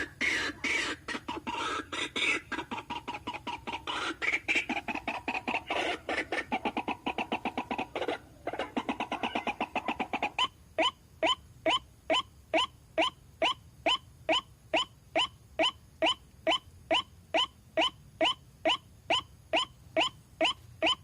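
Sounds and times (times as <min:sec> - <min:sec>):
waterhen kwak call: 0:00.0 - 0:21.0.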